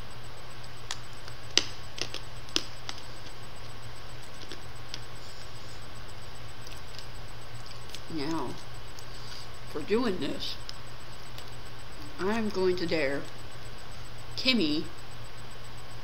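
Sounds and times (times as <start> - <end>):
microphone hiss and hum: 0.0 - 16.0.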